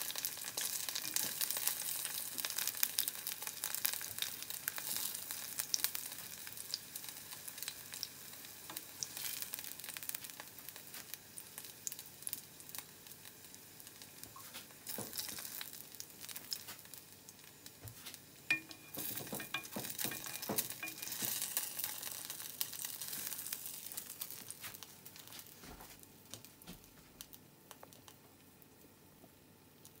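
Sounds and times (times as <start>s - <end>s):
oil sizzling in a frying pan: 0.0s - 26.6s.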